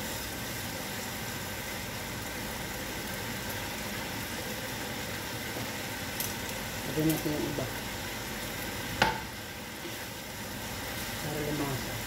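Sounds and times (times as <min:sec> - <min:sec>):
steak frying in a pan: 0:00.0 - 0:12.0.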